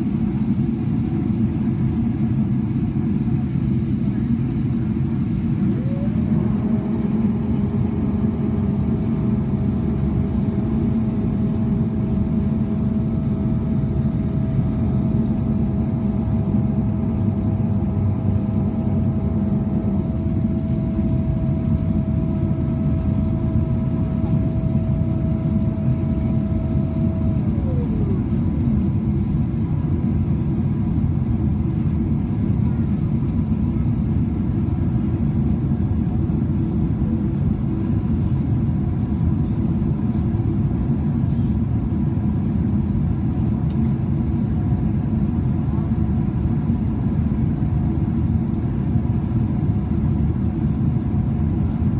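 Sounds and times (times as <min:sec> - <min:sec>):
airplane engine drone: 0:00.0 - 0:51.9
engine whine: 0:00.0 - 0:51.9.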